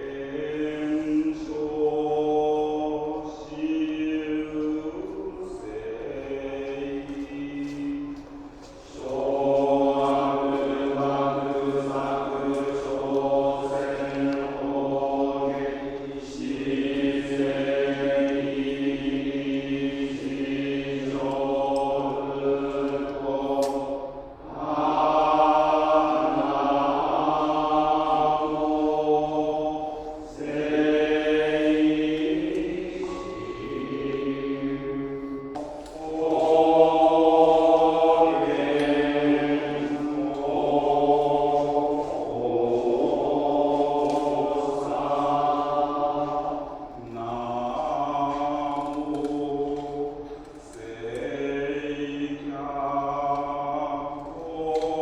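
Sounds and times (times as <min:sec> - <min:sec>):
monks chanting: 0:00.0 - 0:55.0.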